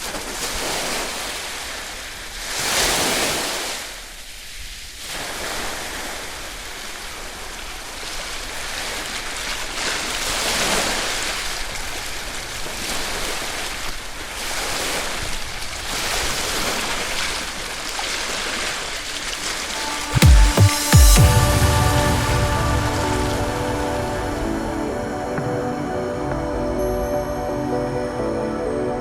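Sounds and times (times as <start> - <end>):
waves breaking on a beach: 0.0 - 26.4.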